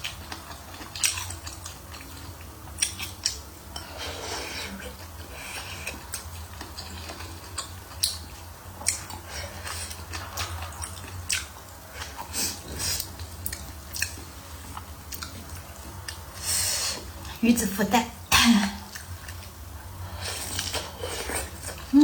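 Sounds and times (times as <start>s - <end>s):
person chewing food: 0.0s - 17.3s, 18.9s - 22.0s.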